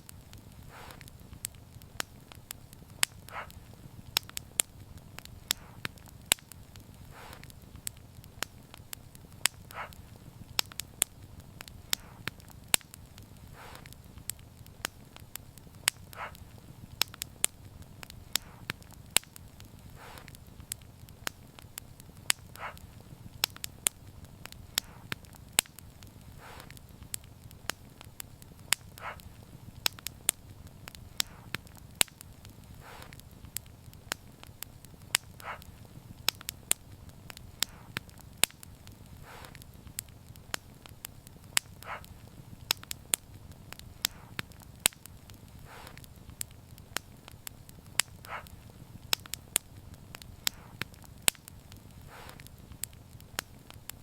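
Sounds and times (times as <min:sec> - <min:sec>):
soft puffs: 0:00.0 - 0:53.6
wood fire crackling: 0:00.0 - 0:54.0.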